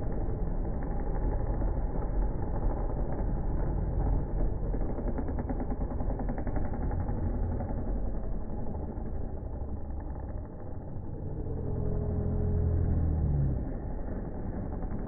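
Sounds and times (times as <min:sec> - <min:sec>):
motocross bike engines: 0:00.0 - 0:15.0.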